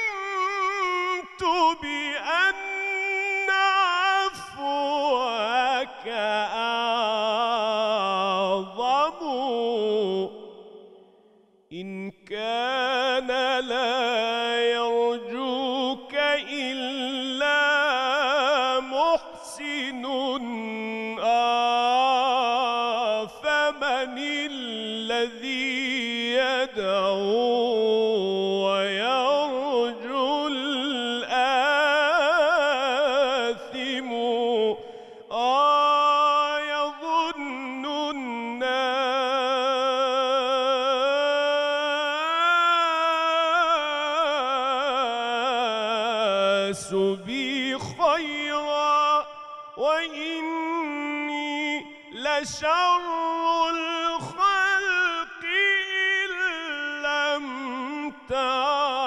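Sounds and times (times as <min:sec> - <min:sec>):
man chanting unaccompanied: 0:00.0 - 0:11.0, 0:11.7 - 0:59.0.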